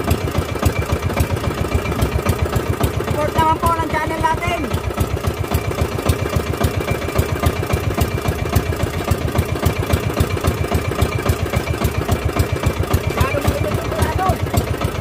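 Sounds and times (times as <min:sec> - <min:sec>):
boat engine thumping: 0:00.0 - 0:15.0.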